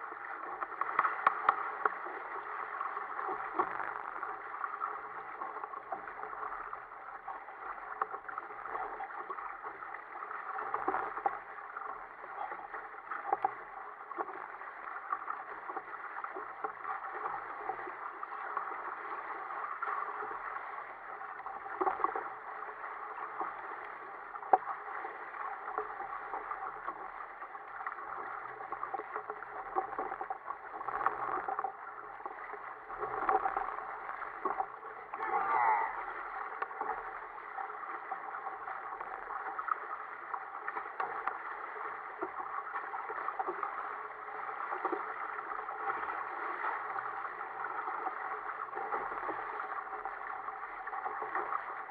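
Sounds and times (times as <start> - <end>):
water rushing against hull: 0.0 - 51.9.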